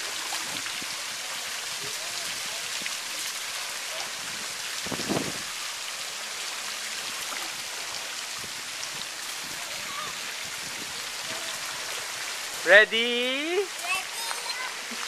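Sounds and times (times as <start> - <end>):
running water hissing: 0.0 - 15.0.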